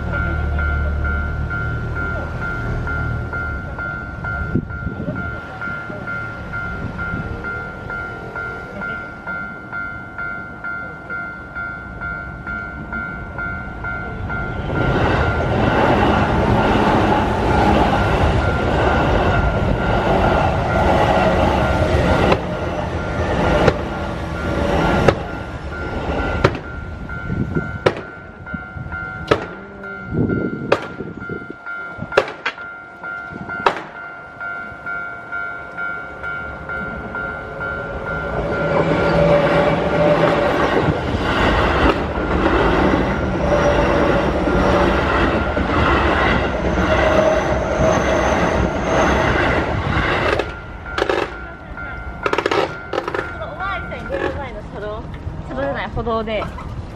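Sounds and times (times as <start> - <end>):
level crossing warning bell: 0.0 - 56.4
train rumble and wheel clatter: 0.0 - 56.9.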